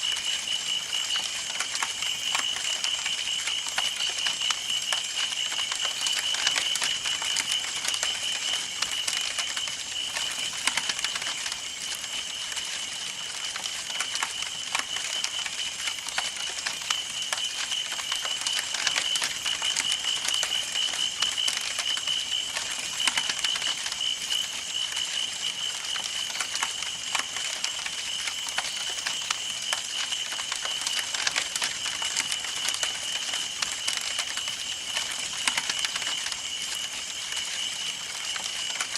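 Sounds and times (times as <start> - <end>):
wood crackling and popping: 0.0 - 38.9.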